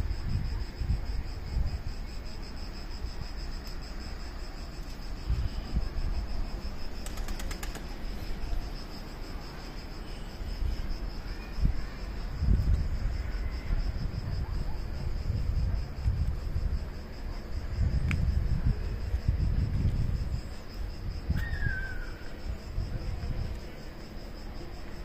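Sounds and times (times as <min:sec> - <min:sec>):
wind rumble on microphone: 0:00.0 - 0:07.2, 0:10.4 - 0:25.0
crickets chirping: 0:00.0 - 0:25.0.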